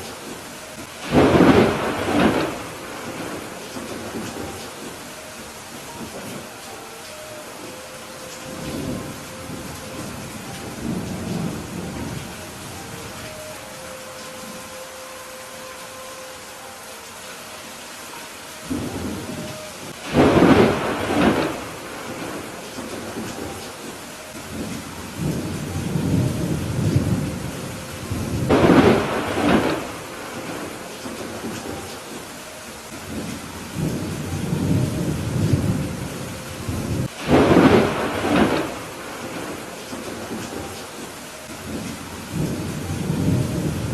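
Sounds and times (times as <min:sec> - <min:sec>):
thunder rumble: 0:00.0 - 0:06.6, 0:08.4 - 0:13.3, 0:18.7 - 0:32.3, 0:32.9 - 0:43.9
steady rain: 0:00.0 - 0:43.9.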